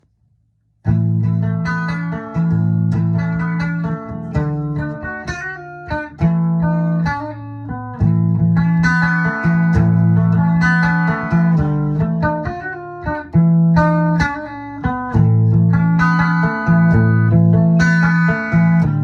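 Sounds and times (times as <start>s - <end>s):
guitar notes picked over low notes: 0.9s - 19.0s.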